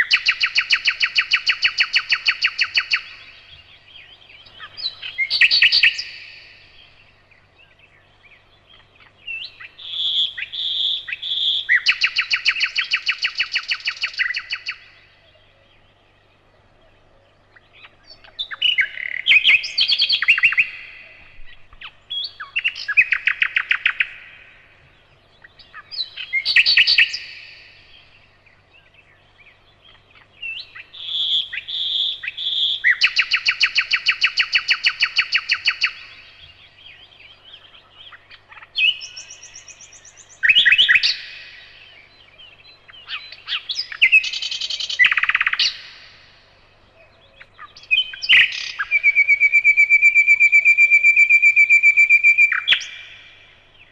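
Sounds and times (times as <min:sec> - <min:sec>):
nightingale singing: 0:00.0 - 0:53.9.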